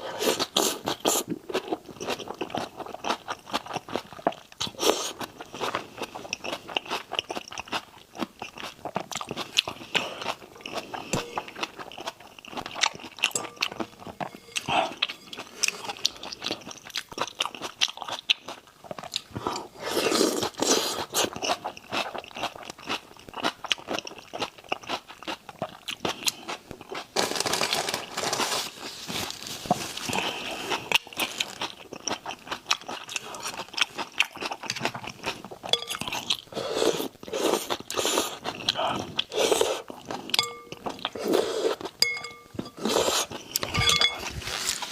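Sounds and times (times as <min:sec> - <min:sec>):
crunching and wet chewing: 0:00.1 - 0:28.4, 0:29.1 - 0:44.9.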